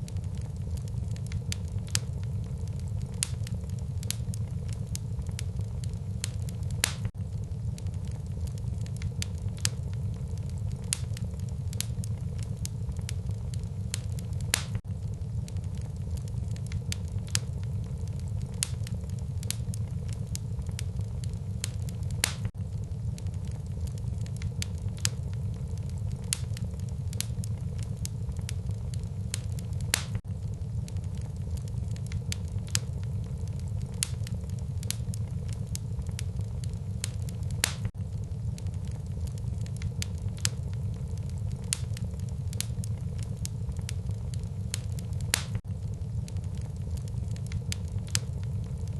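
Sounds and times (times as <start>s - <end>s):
crackling wood fire: 0.0s - 48.9s
low fire rumble: 0.0s - 48.9s.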